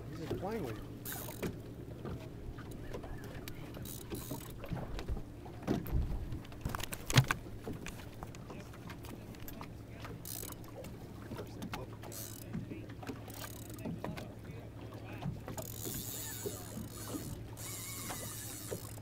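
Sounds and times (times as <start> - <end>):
boat engine humming: 0.0 - 19.0
water lapping against hull: 0.0 - 19.0.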